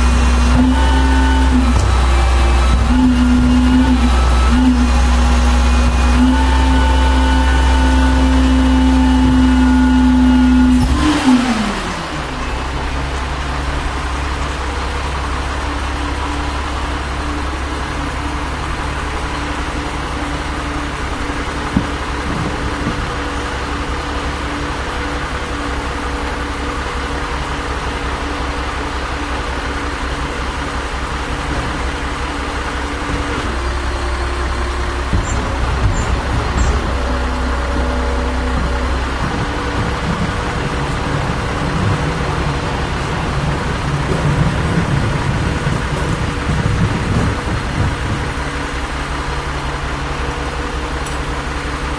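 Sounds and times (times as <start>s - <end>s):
diesel truck engine revving and idling: 0.0s - 51.9s.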